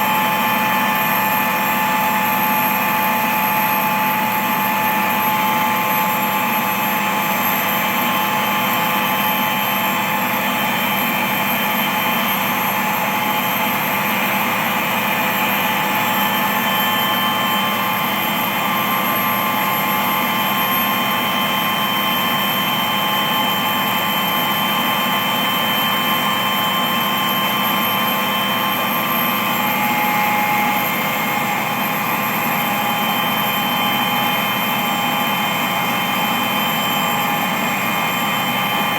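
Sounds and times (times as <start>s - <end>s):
engine drone with held tones: 0.0s - 38.9s.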